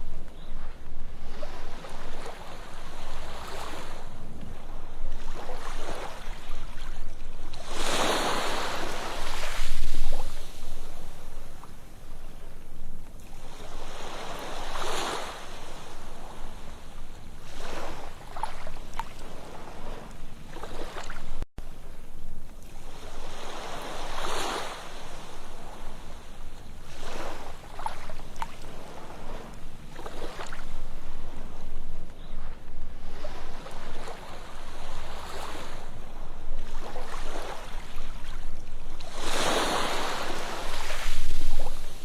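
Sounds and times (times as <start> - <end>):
ocean waves on sandy beach: 0.0 - 42.0.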